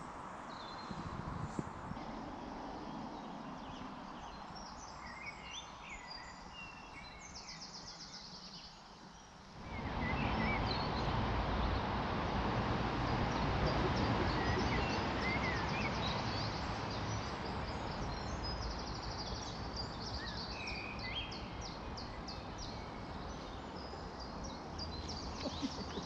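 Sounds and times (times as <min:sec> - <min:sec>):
small birds chirping: 0:00.5 - 0:12.1, 0:12.9 - 0:26.0.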